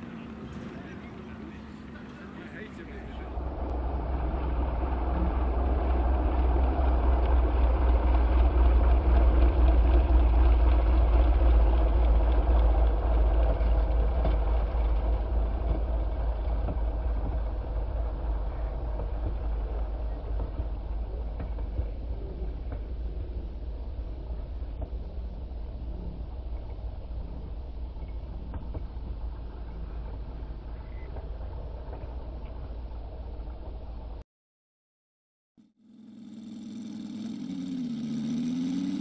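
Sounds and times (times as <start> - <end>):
model plane radial engine: 0.0 - 34.0, 35.6 - 39.0.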